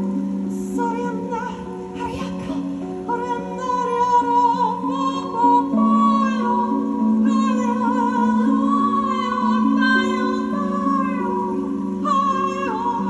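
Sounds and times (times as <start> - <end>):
woman singing wordless melody: 0.0 - 13.0.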